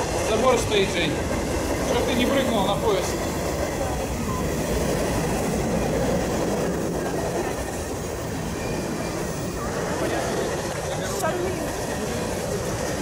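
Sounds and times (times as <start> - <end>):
steel wheels on rail: 0.0 - 13.0.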